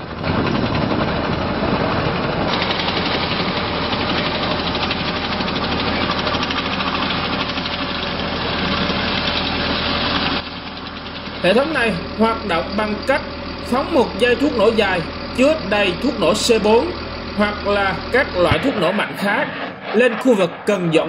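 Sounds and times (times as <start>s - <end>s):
tracked vehicle turbine engine: 0.0s - 21.0s.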